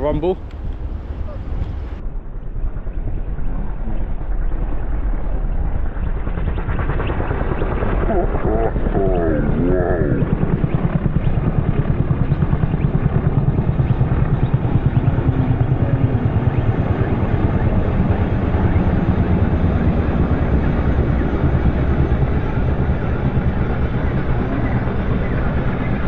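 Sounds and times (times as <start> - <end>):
helicopter rotor blades beating: 0.0 - 26.0.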